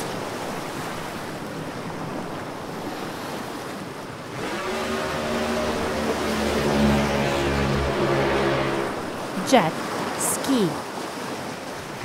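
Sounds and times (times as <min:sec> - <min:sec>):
jet ski engine: 0:00.0 - 0:10.6
water waves washing: 0:00.0 - 0:12.0.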